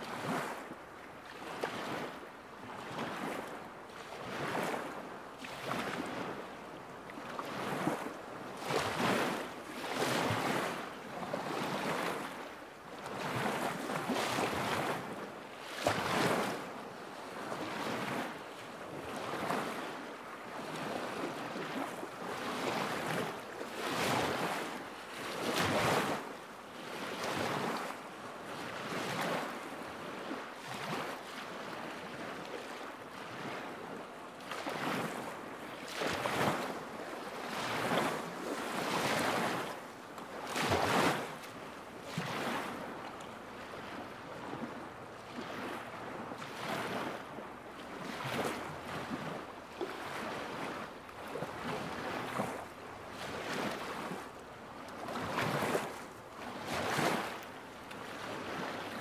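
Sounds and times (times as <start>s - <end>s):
small waves lapping: 0.0s - 59.0s.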